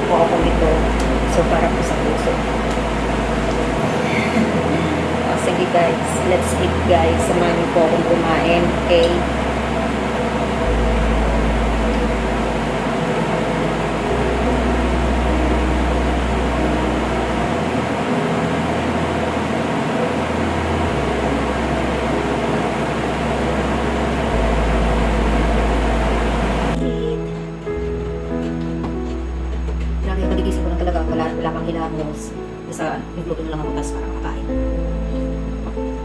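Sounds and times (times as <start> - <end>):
background music: 0.0 - 36.0
fan blowing air: 0.0 - 36.0.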